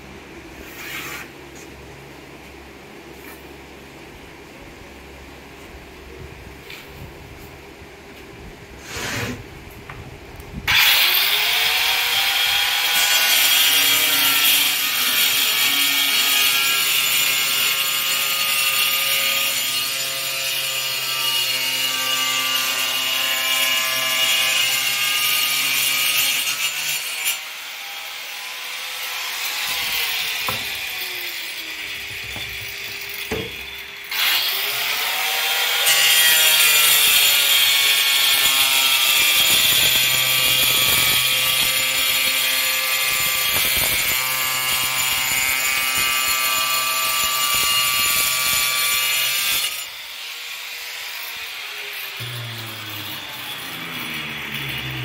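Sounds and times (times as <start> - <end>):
angle grinder cutting: 10.7 - 55.0.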